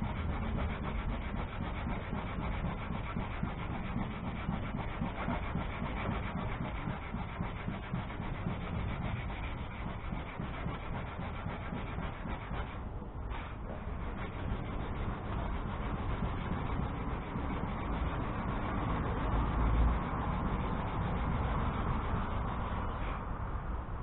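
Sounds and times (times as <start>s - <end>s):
hand sanding: 0.0s - 23.2s.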